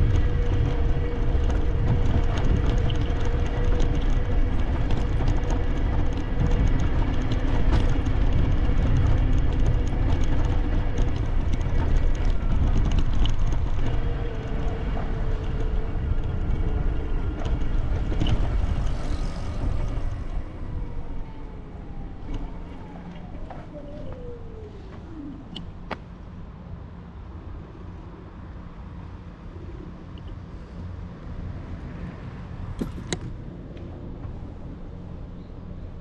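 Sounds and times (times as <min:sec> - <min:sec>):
wind buffeting the microphone: 0:00.0 - 0:36.0.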